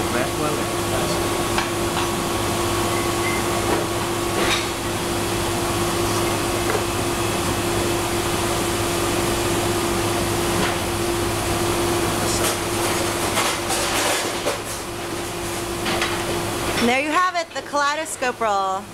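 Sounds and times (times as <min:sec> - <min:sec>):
kitchen machinery humming: 0:00.0 - 0:18.9.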